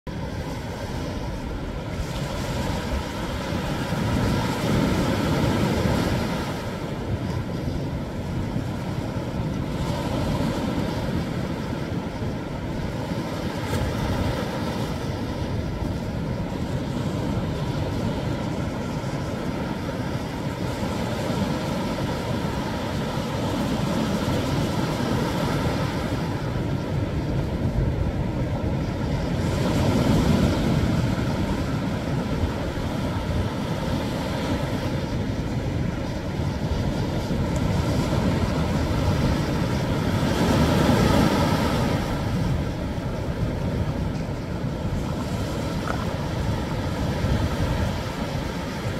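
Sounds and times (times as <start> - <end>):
surf waves breaking on rocks: 0.1 - 48.9.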